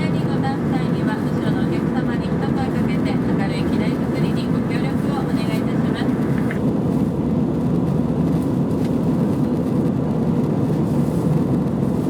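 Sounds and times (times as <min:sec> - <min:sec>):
airliner cabin engine and airflow noise: 0:00.0 - 0:12.0.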